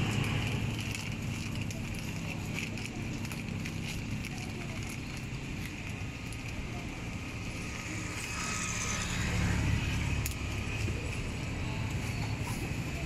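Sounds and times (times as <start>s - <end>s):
low rumble of passing vehicle: 0.0s - 13.0s.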